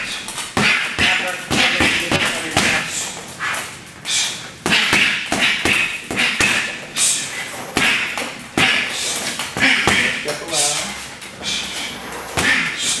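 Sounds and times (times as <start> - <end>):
gloves punching heavy bag: 0.0 - 6.8, 7.7 - 10.4, 11.4 - 13.0.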